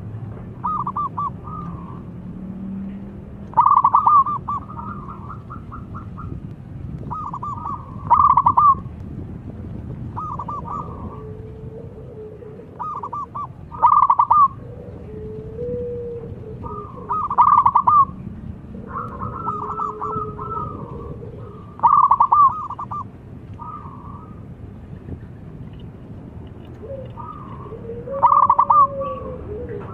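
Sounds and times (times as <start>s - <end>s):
doves cooing: 0.0s - 6.4s, 7.0s - 9.0s, 10.0s - 24.6s, 26.6s - 29.9s.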